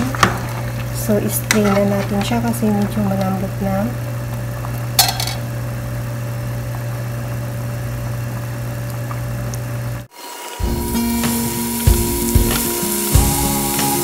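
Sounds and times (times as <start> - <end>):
low mechanical hum: 0.0 - 13.4.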